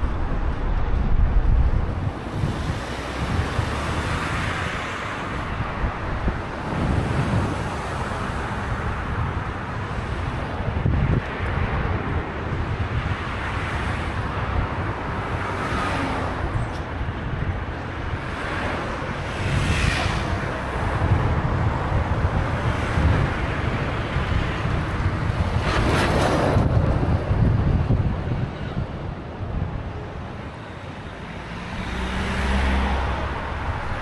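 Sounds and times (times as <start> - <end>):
road noise rumble: 0.0 - 34.0
wind buffeting microphone: 0.0 - 34.0.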